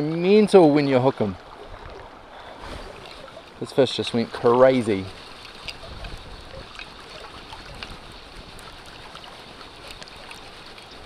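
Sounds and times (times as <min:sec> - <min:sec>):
river water flowing and lapping: 0:00.0 - 0:11.0
small splashes and drips: 0:00.0 - 0:11.0.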